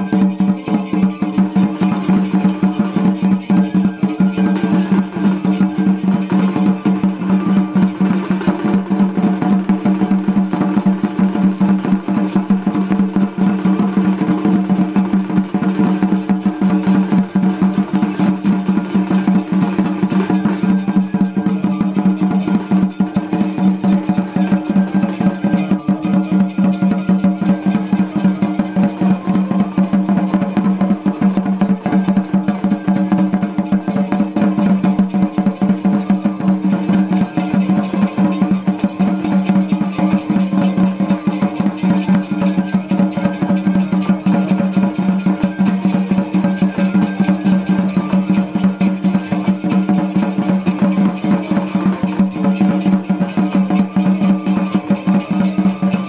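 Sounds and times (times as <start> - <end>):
fast continuous drumming: 0.0 - 56.0.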